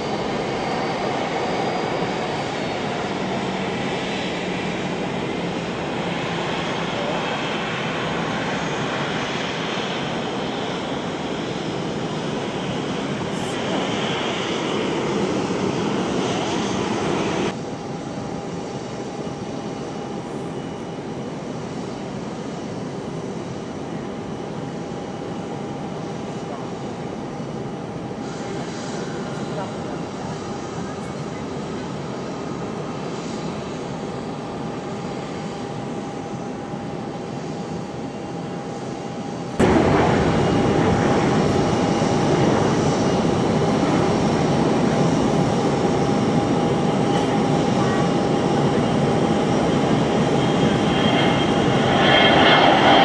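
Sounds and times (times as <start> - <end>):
jet engines roaring with whine: 0.0 - 53.0.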